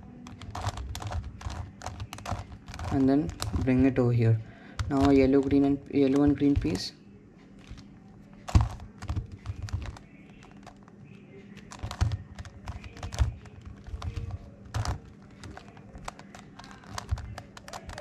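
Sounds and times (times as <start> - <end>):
plastic puzzle clicking: 0.1 - 4.0, 4.7 - 6.9, 7.6 - 18.0.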